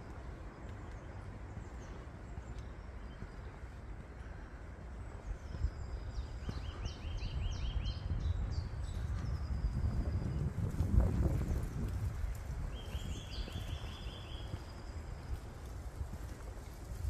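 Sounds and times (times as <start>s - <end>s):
footsteps on dirt path: 0.0s - 17.0s
low rumble on microphone: 0.0s - 17.0s
songbird singing: 0.0s - 17.0s.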